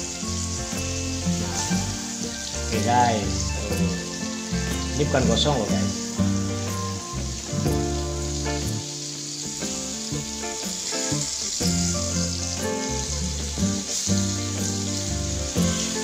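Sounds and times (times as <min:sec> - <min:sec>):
background music with low notes: 0:00.0 - 0:16.0
food sizzling in oil: 0:00.0 - 0:16.0.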